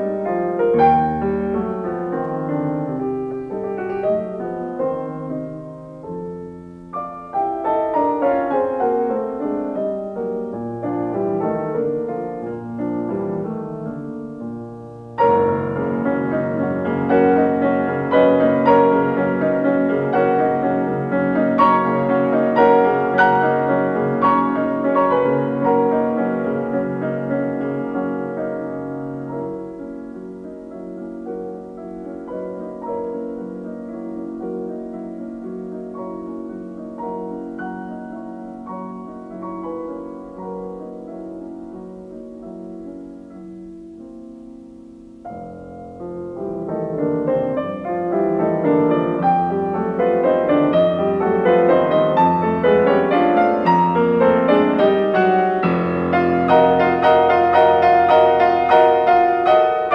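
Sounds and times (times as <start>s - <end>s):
piano music: 0.0s - 59.9s.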